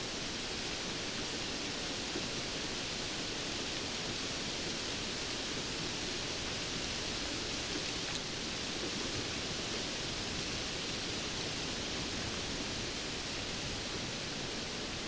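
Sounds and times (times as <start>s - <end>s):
dense rain hiss: 0.0s - 15.0s.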